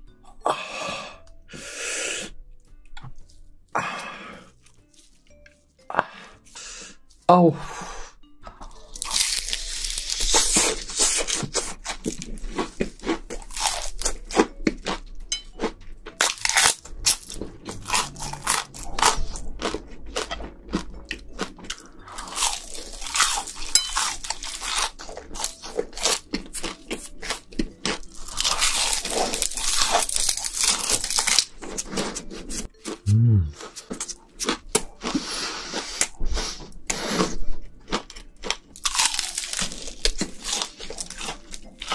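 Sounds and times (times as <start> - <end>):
crunching and chewing food: 2.2 - 7.3, 8.5 - 41.9.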